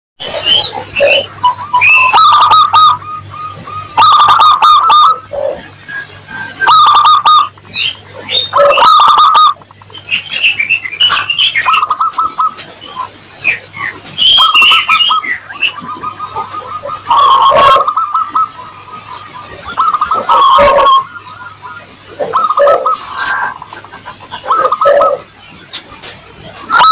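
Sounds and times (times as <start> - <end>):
bird chirps: 0.2 - 26.9
dove cooing: 0.2 - 26.9.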